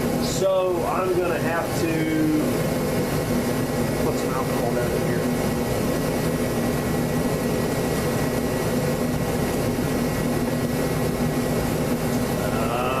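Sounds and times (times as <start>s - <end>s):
faint high whine: 0.0s - 13.0s
machine drone with low hum: 0.0s - 13.0s.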